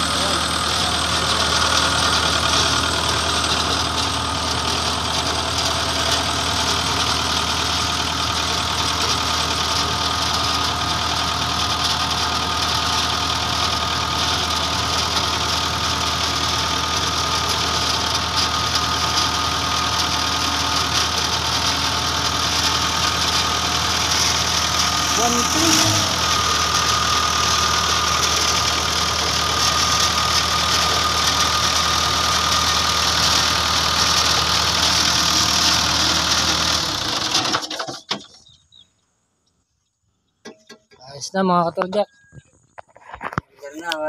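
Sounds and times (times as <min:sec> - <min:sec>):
diesel engine idling: 0:00.0 - 0:42.8.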